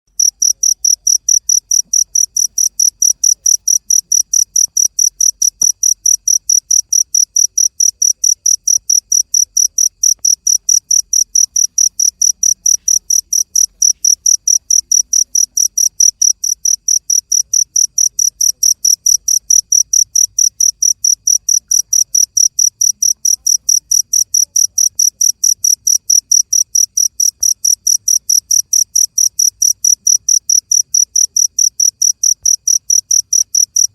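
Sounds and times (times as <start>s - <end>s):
cricket chirping: 0.1s - 33.9s.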